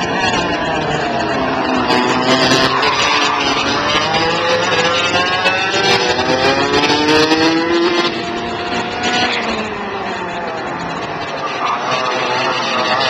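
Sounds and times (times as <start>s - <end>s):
racing kart engines revving: 0.0s - 13.0s.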